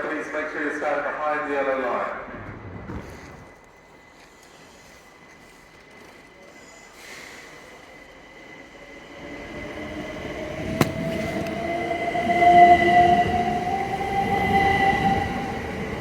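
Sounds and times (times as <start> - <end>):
electric train pulling in: 0.0 - 16.0.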